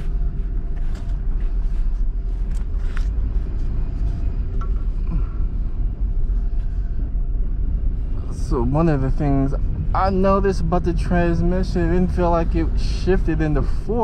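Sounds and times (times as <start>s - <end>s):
car engine rumble from inside: 0.0s - 14.0s.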